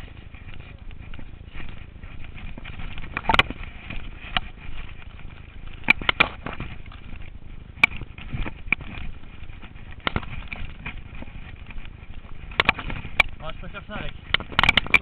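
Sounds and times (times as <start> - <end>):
bike clicks and knocks: 0.0 - 15.0.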